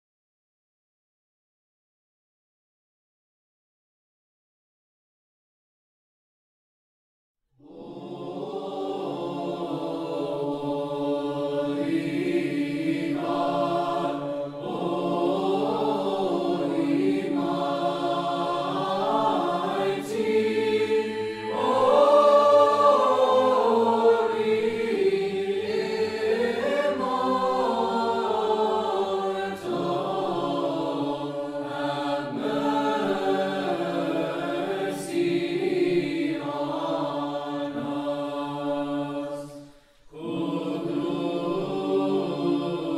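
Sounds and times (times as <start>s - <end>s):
choir chanting a hymn: 7.6s - 42.9s.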